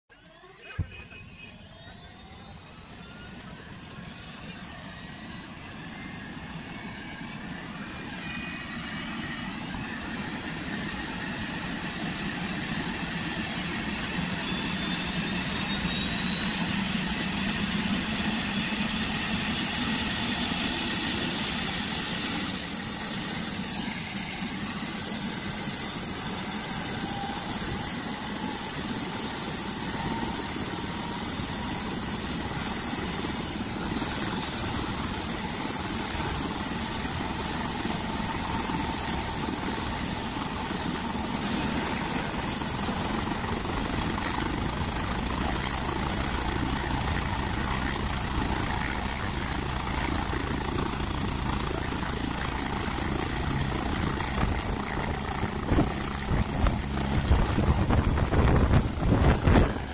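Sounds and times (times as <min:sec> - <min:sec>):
helicopter turbine whine: 0:00.1 - 0:59.9.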